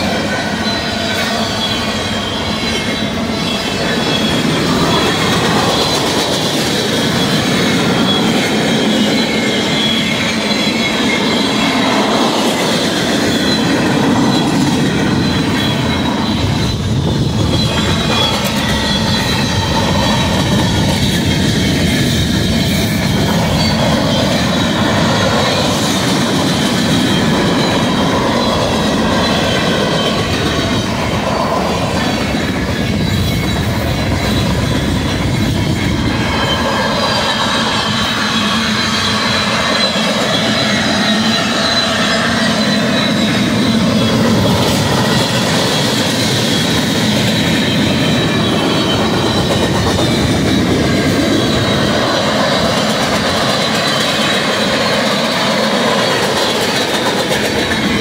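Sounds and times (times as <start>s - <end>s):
freight cars rumbling on rails: 0.0s - 58.0s
high-pitched wheel squeal: 0.0s - 58.0s.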